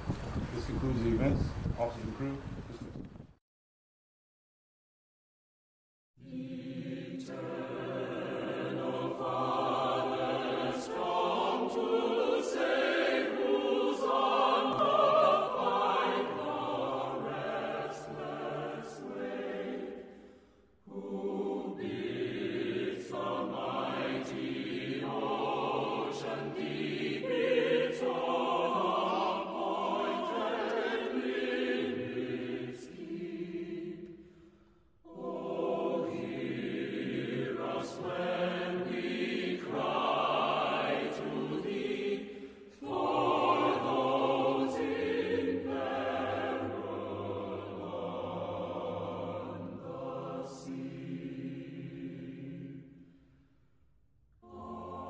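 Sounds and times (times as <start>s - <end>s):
choir singing sustained phrases: 6.2s - 55.0s.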